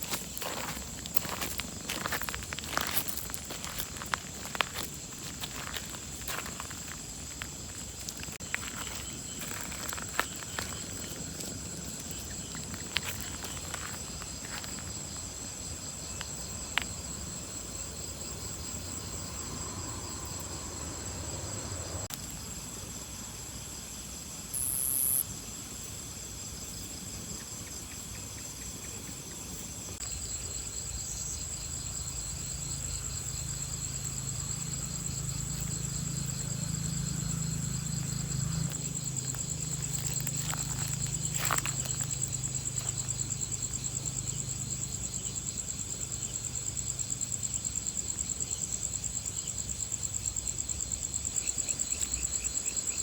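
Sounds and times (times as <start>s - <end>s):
pulsing insect chirr: 0.0s - 23.7s, 24.4s - 25.6s, 26.6s - 53.0s
insects chirring steadily: 0.0s - 53.0s.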